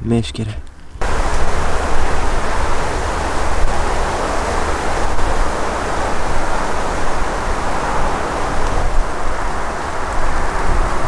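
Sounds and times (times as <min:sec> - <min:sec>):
wind buffeting microphone: 0:01.0 - 0:11.0.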